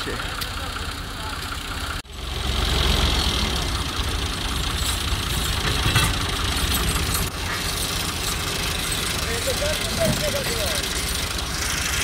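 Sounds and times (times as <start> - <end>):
diesel tractor engines running: 0.0 - 12.0.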